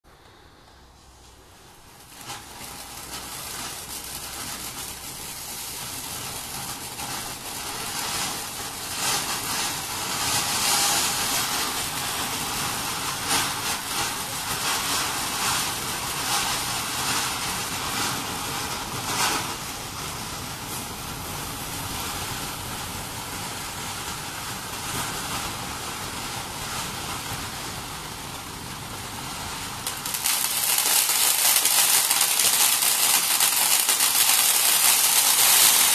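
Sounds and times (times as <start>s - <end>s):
firework crackling: 0.1s - 35.9s
firework fountain hissing: 0.1s - 35.9s.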